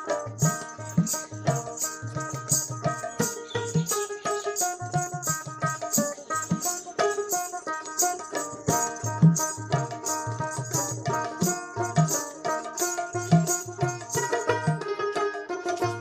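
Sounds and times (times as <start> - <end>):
hand drum beat: 0.0 - 15.2
held melodic notes: 0.0 - 16.0.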